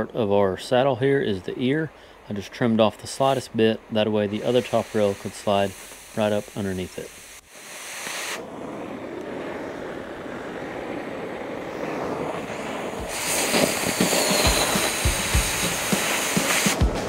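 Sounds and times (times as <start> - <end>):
cutting torch hissing: 3.1 - 17.0.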